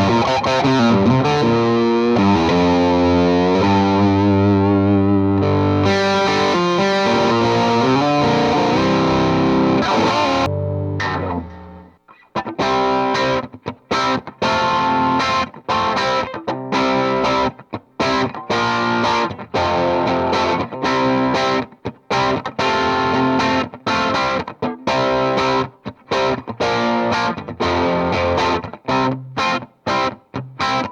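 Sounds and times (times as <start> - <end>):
distorted electric guitar chords: 0.0 - 30.9.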